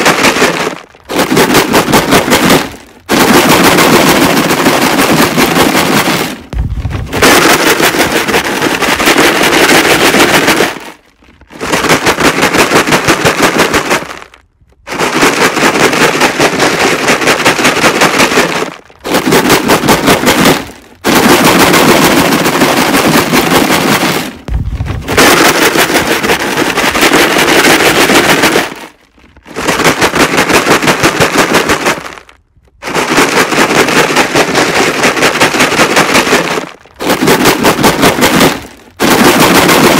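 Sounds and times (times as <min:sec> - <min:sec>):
rocks rattling in plastic jug: 0:00.0 - 0:39.9.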